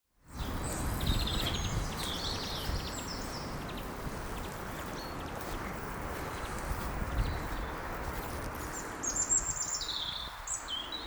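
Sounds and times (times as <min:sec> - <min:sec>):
small birds chirping and trilling: 0:00.3 - 0:11.0.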